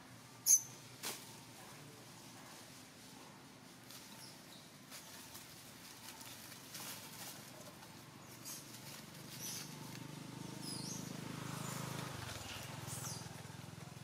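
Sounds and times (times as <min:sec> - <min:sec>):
leaves rustling underfoot: 0:00.8 - 0:14.0.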